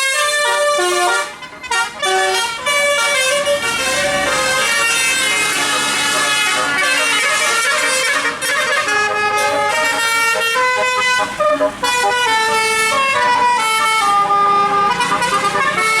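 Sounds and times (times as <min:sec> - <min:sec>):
bus horn playing a tune: 0:00.0 - 0:16.0.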